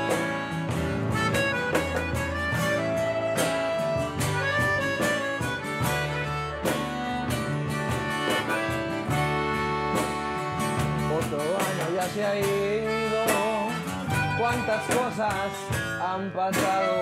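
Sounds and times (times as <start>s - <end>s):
accordion melody: 0.0s - 17.0s
cajon drum: 0.0s - 17.0s
electric bass: 0.0s - 17.0s
strummed acoustic guitar: 0.0s - 17.0s.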